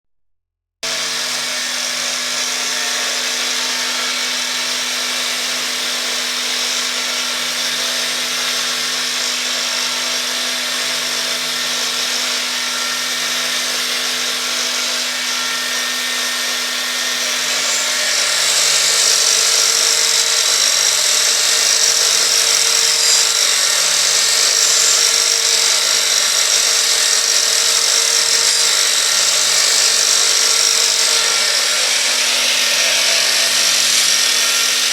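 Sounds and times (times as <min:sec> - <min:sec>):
angle grinder whining: 0:00.8 - 0:34.9.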